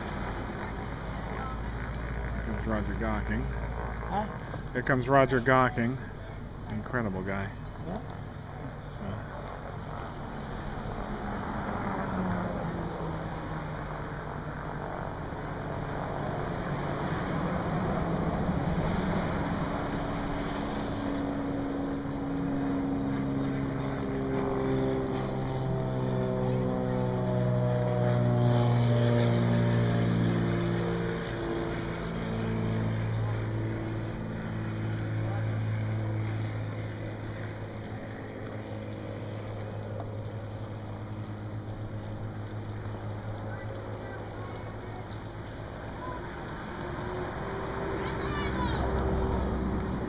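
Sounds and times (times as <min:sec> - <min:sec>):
motorboat engine running: 0:00.0 - 0:50.0
outdoor noise: 0:00.0 - 0:50.0.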